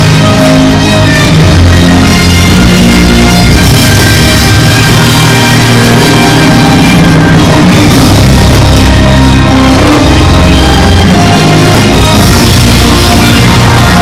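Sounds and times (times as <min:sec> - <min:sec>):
loud rock music: 0:00.0 - 0:14.0.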